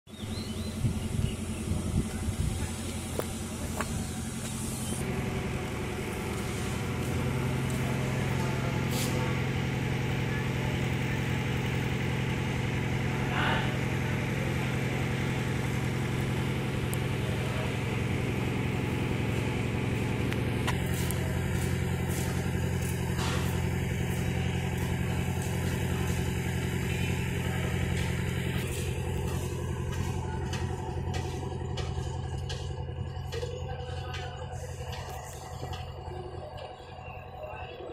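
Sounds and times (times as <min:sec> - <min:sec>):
low engine hum: 0:00.0 - 0:37.9.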